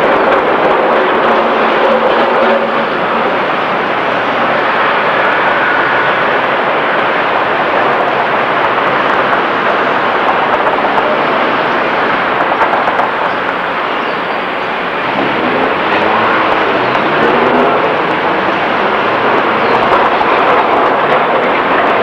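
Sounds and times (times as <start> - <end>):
city street traffic noise: 0.0 - 22.0.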